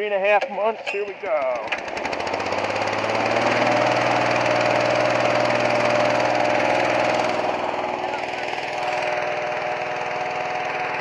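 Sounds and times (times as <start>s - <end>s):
small gasoline engine running: 1.5s - 11.0s.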